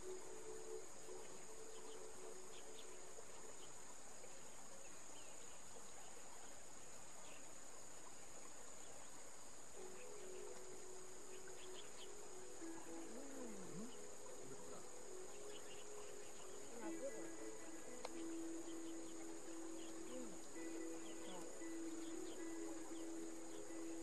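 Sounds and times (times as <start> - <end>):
high-pitched insect drone: 0.0 - 24.0
soft background music: 0.0 - 24.0.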